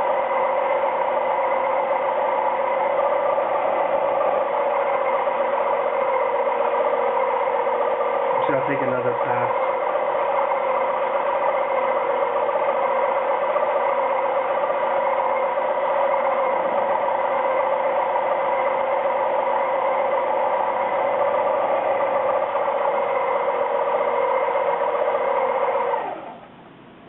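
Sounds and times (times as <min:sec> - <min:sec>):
lathe whining: 0:00.0 - 0:26.8.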